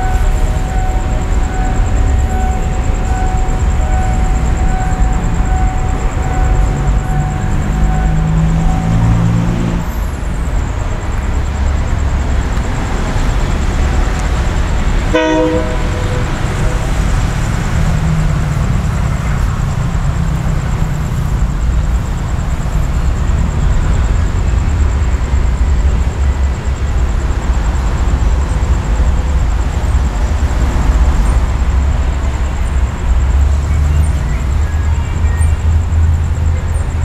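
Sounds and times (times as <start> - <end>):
diesel train engine rumbling: 0.0 - 37.0.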